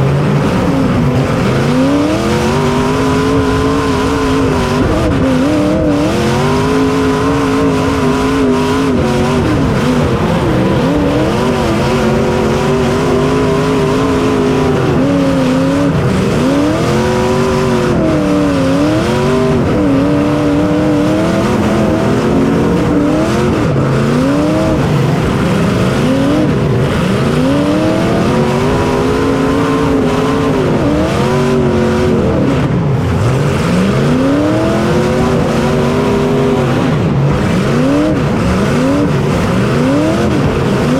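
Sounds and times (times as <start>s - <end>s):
racing engine revving: 0.0s - 40.9s.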